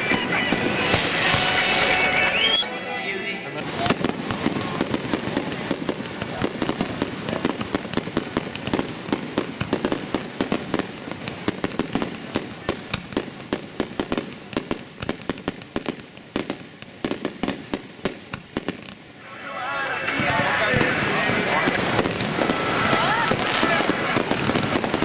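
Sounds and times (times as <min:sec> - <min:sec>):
fireworks bangs and crackles: 0:00.0 - 0:25.0
fireworks rumble: 0:00.0 - 0:25.0.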